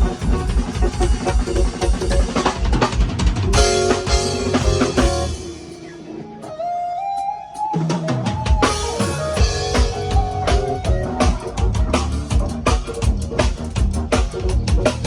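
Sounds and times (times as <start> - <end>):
drum kit beat with kick drum: 0.0 - 6.6, 7.2 - 15.0.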